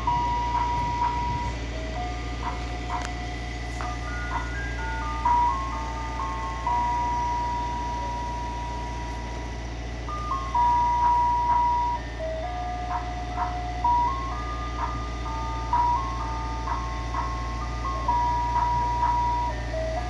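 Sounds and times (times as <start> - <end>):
electronic ice cream truck jingle: 0.0 - 20.0
low hum: 0.0 - 20.0.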